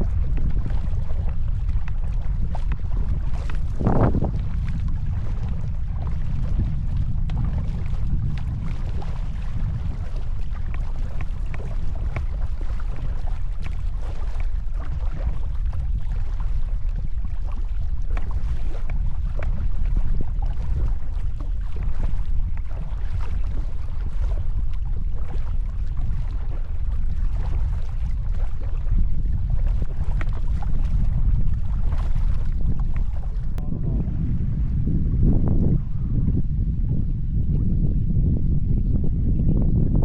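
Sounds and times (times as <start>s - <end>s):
paddle strokes splashing: 0.0s - 33.8s
waves against hull: 0.0s - 40.0s
wind rumbling on microphone: 0.0s - 40.0s.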